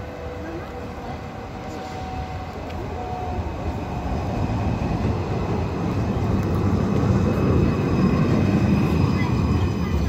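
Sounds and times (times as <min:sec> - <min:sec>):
tram rumbling: 0:00.0 - 0:10.0.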